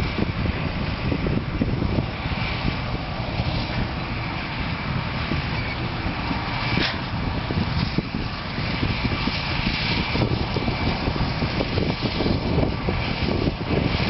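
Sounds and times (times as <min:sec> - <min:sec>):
heavy machinery rumbling: 0:00.0 - 0:14.0
high whine: 0:00.0 - 0:14.0
wind buffeting microphone: 0:00.0 - 0:14.0.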